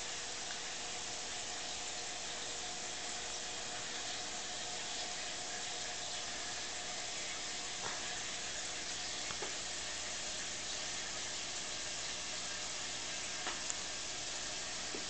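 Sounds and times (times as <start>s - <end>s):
aquarium filter water hissing: 0.0s - 15.0s.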